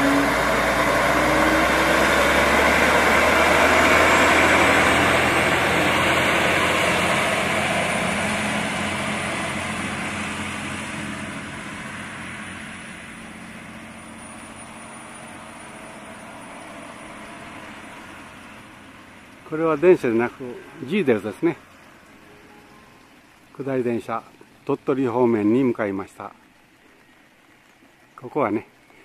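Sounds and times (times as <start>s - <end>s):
diesel railcar passing: 0.0s - 27.6s.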